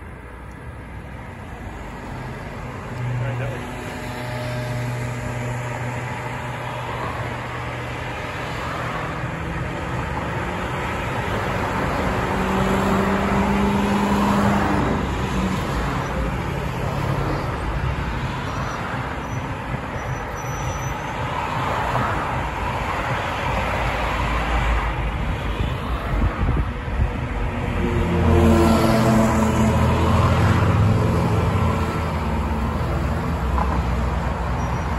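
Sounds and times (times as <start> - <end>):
cars passing close by: 0.0 - 34.9
vehicle engine hum: 0.0 - 34.9.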